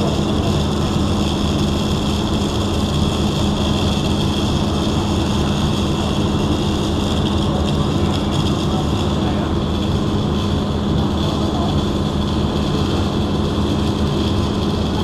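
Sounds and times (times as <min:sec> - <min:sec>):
electrical hum: 0:00.0 - 0:15.0
welding arc crackling and hissing: 0:00.0 - 0:15.0.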